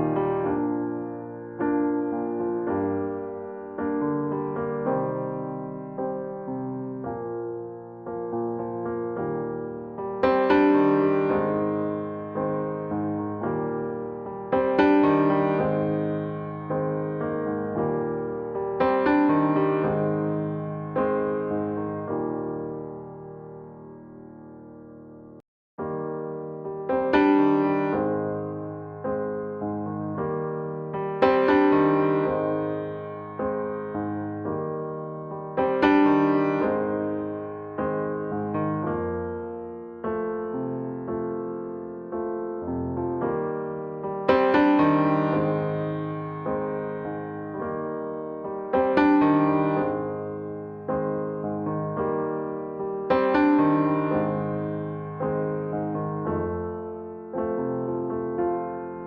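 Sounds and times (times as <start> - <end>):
slow piano chords: 0.0 - 59.0.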